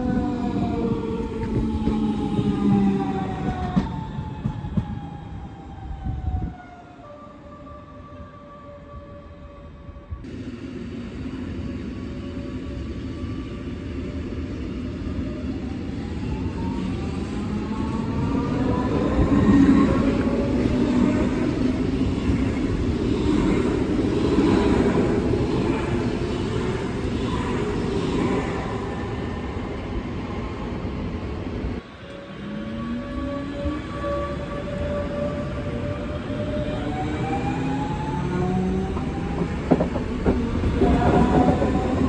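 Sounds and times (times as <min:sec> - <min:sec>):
train wheels on rail: 0:00.0 - 0:05.6, 0:10.2 - 0:42.0.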